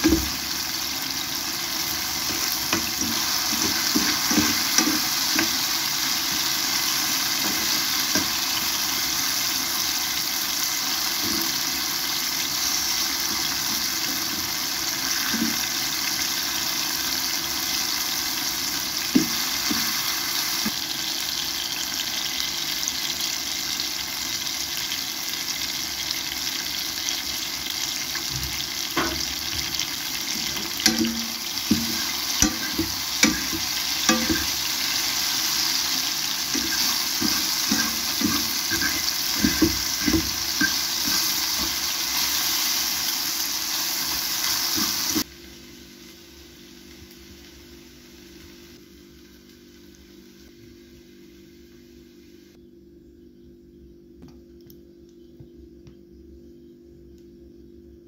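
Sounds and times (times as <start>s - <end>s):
mushrooms sizzling in a frying pan: 0.0s - 52.1s.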